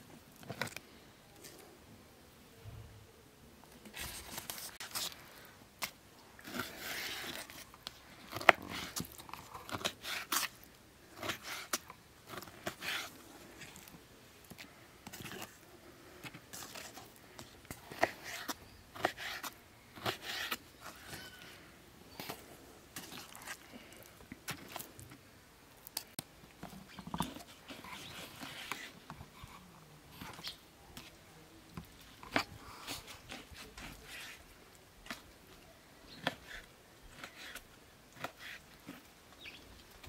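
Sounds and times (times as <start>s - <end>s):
food being cut and handled: 3.8s - 25.2s, 25.8s - 40.0s.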